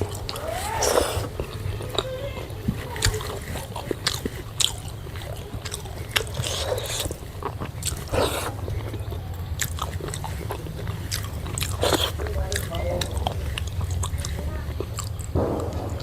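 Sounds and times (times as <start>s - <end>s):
chewing and biting: 0.0s - 16.0s
wet mouth smacks: 0.0s - 16.0s.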